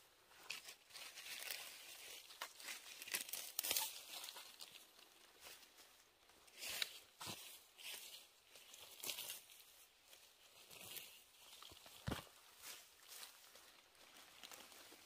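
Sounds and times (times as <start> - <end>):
dry leaves rustling: 0.4 - 15.0.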